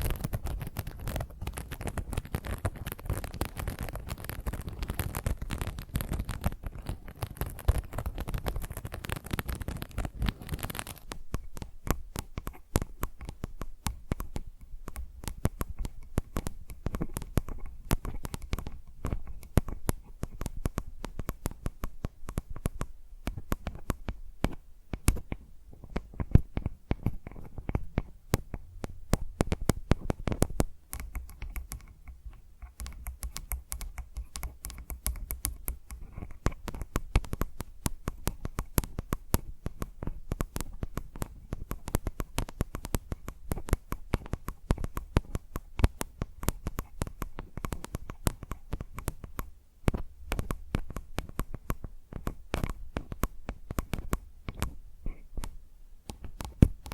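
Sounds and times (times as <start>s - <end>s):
fingers tapping on microphone: 0.0s - 56.9s.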